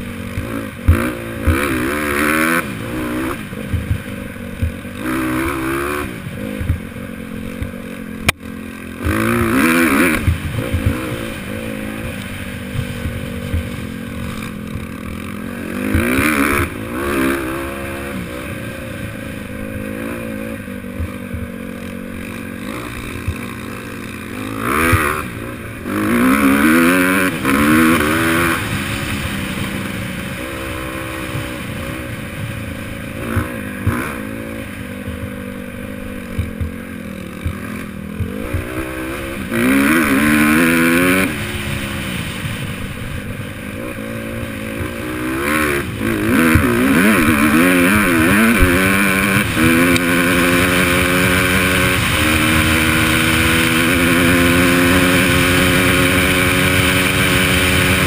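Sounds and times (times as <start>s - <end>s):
bike rattling over rough track: 0.0s - 58.0s
dirt bike engine revving: 0.0s - 58.0s.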